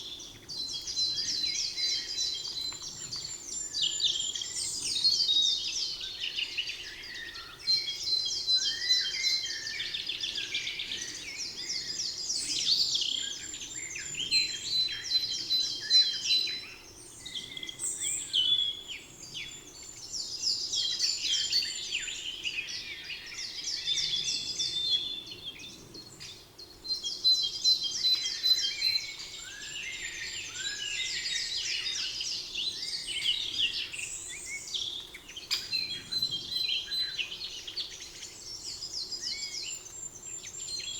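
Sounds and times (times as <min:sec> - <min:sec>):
songbird chirps and trills: 0:00.0 - 0:40.9.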